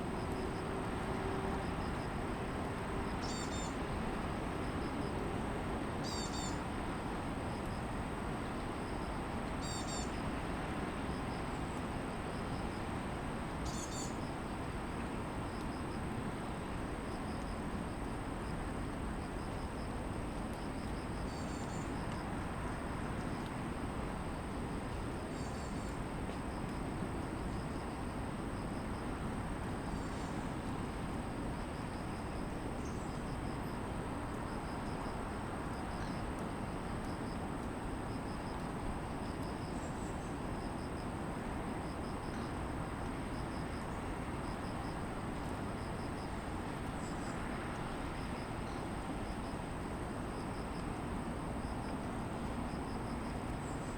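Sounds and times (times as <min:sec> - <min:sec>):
distant city traffic hum: 0:00.0 - 0:53.9.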